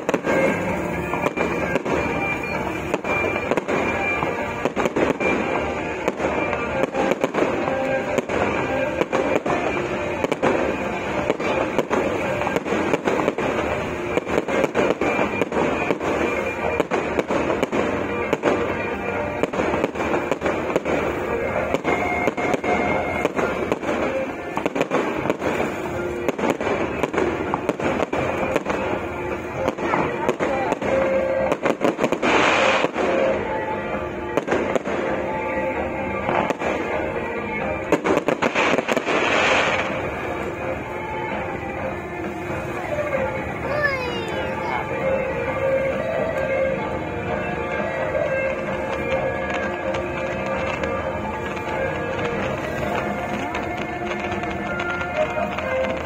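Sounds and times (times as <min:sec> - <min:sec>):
fireworks bursting: 0:00.0 - 0:56.0
music playing: 0:00.0 - 0:56.0.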